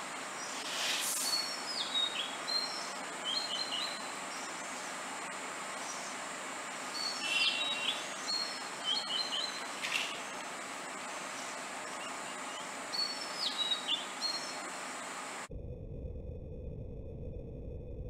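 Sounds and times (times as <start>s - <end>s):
birds chirping: 0.0s - 15.5s
steady outdoor hiss: 0.0s - 15.5s.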